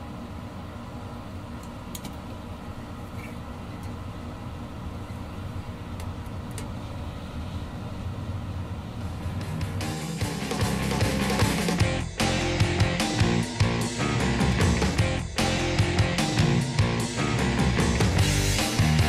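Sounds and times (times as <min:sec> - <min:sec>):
guitar amplifier hum: 0:00.0 - 0:19.0.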